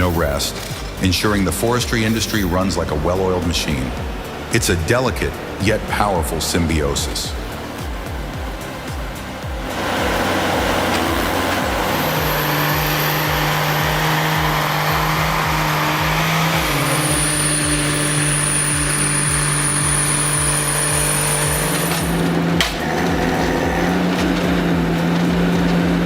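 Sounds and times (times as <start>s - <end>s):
heavy machinery engine running: 0.0s - 26.0s
thin high whine: 0.0s - 26.0s.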